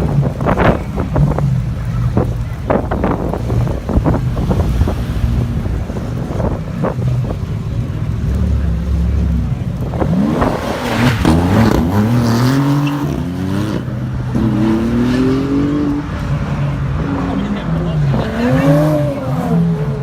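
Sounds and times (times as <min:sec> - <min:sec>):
sports car engine revving: 0:00.0 - 0:20.0.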